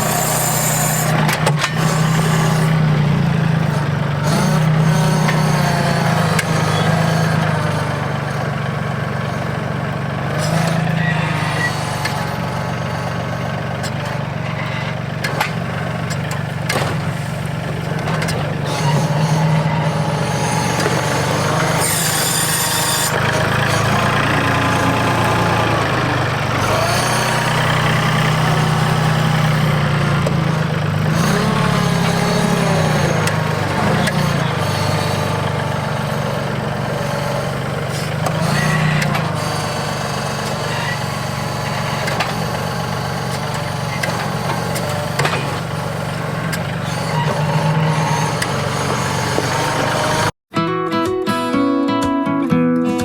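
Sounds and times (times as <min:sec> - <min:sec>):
tractor diesel engine running: 0:00.0 - 0:50.4.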